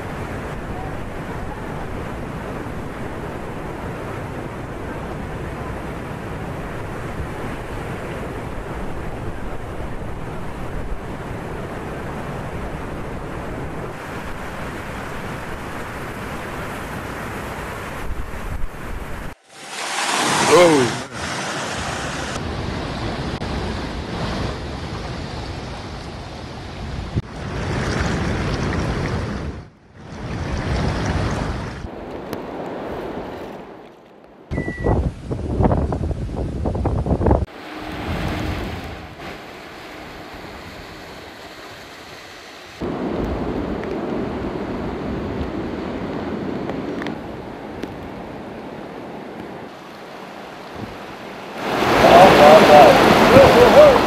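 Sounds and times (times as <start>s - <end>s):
floodwater rushing: 0.0s - 34.2s, 37.5s - 54.0s.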